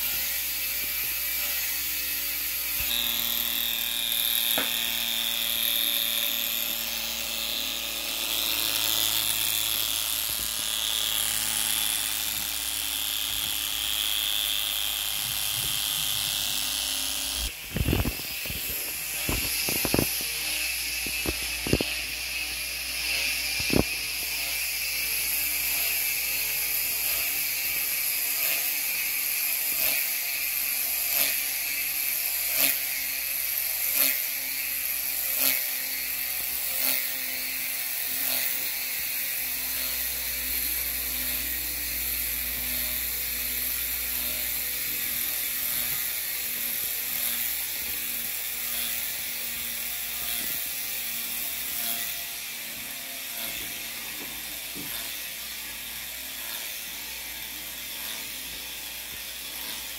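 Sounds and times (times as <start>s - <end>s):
ratcheting gear buzz: 0.0s - 59.9s
small motor high whine: 0.0s - 59.9s.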